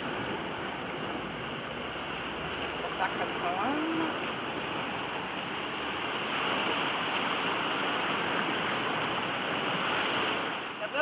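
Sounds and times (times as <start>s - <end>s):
surf washing over rocky shore: 0.0s - 11.0s.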